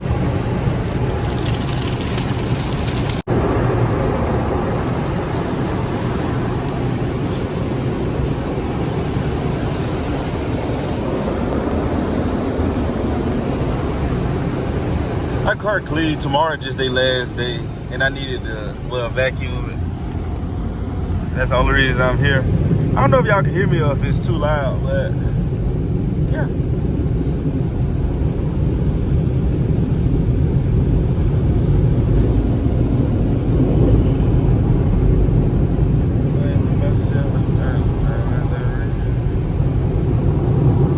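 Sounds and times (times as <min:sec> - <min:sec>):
loud car engine and exhaust: 0:00.0 - 0:40.9.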